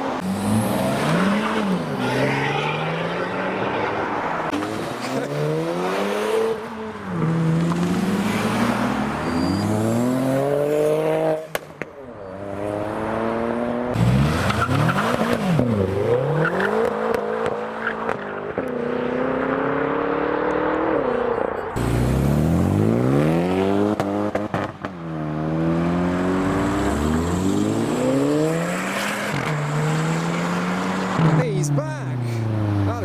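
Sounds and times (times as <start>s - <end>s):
car engines revving and accelerating: 0.0s - 33.0s.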